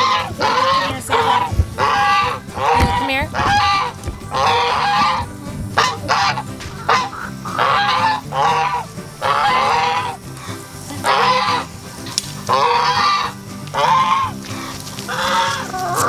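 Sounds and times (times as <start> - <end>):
farm animals calling: 0.0 - 16.0.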